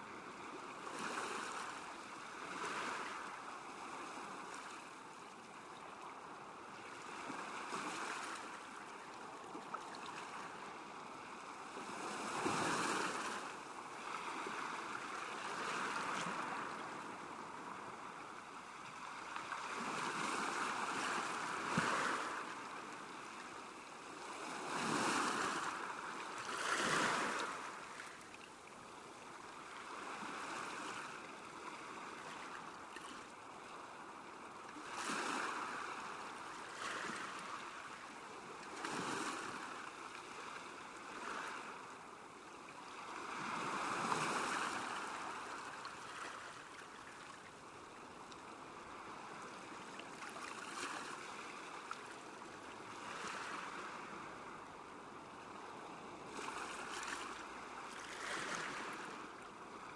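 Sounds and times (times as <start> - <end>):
small waves lapping on shore: 0.0 - 59.9.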